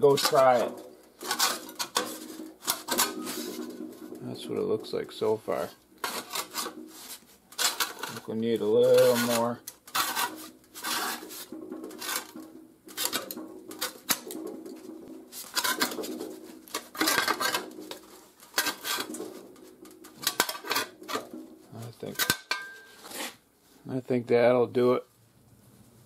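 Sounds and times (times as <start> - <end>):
sheet metal scraping vise: 0.0 - 5.3, 6.0 - 23.4.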